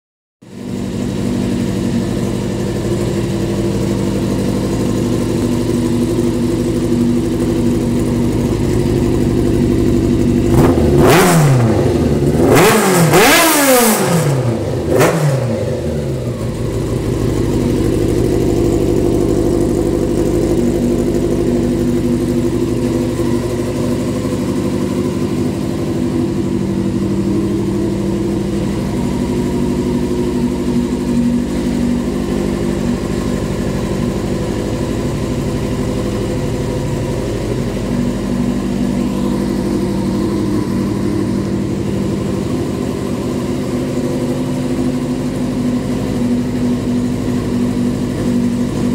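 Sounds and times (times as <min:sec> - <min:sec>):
motorcycle engine idling and revving: 0:00.4 - 0:48.9.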